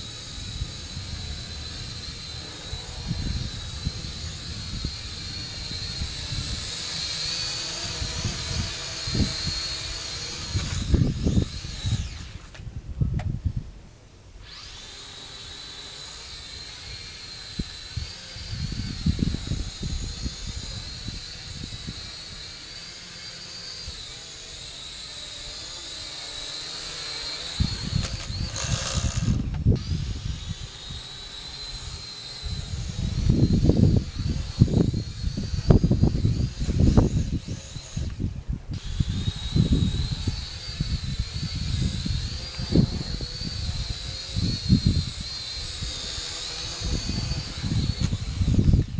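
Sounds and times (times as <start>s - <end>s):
drone propellers whining: 0.0s - 13.3s, 14.4s - 48.9s
wind buffeting the microphone: 0.0s - 13.9s, 17.4s - 22.5s, 27.4s - 48.9s.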